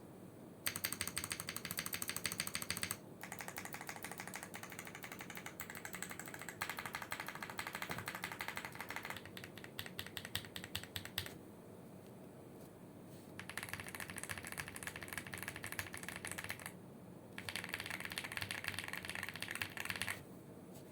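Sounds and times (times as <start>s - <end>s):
mechanical keyboard key clacks: 0.7s - 11.3s, 13.4s - 16.7s, 17.4s - 20.2s.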